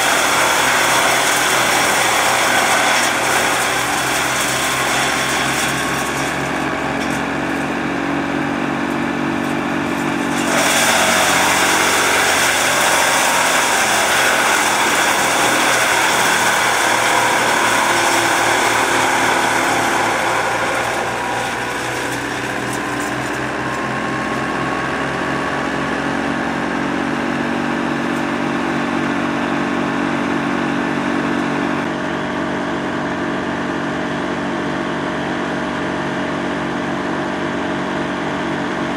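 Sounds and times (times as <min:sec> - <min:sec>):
wood chipper engine running: 0:00.0 - 0:38.9.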